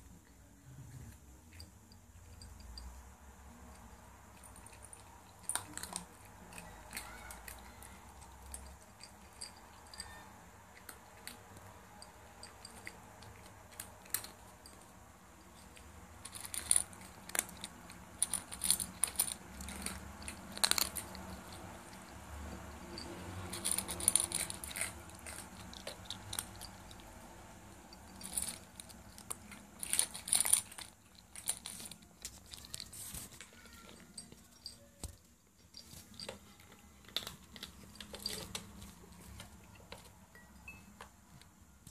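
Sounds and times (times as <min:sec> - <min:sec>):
cat crunching dry kibble: 0:04.3 - 0:34.2, 0:35.8 - 0:40.2.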